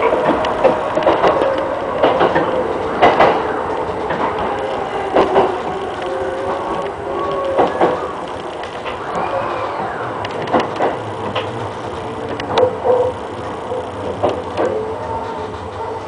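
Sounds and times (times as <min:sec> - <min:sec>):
electric train motor whining: 0:00.0 - 0:16.0
wheels clicking over rail joints: 0:00.0 - 0:16.0.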